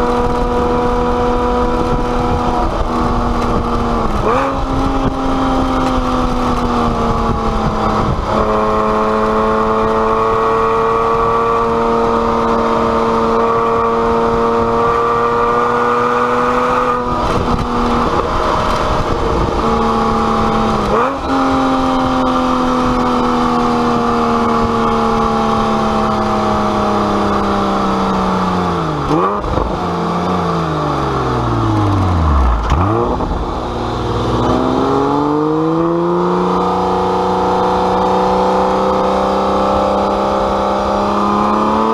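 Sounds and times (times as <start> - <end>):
sports car engine driving: 0.0 - 41.9.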